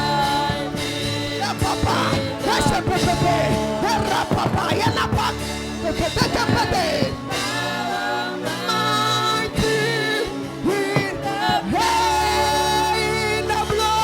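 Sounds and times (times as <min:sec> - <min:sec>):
backing music: 0:00.0 - 0:14.0
gospel worship singing: 0:00.0 - 0:14.0.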